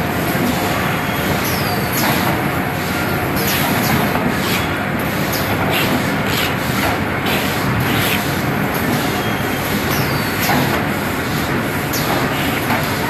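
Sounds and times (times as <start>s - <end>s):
machine clacks: 1.4s - 2.5s, 3.4s - 13.0s.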